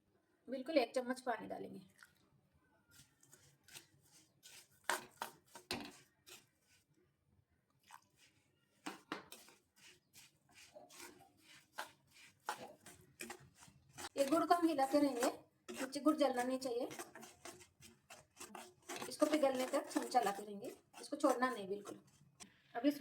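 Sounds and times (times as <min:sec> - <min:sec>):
spoon scraping a pan: 0:02.9 - 0:06.9, 0:07.8 - 0:22.5.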